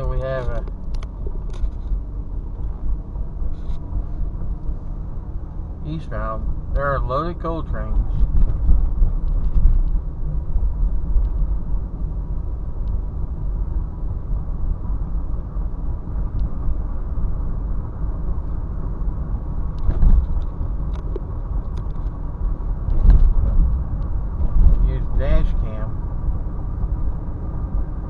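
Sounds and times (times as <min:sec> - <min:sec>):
car interior road rumble: 0:00.0 - 0:28.0.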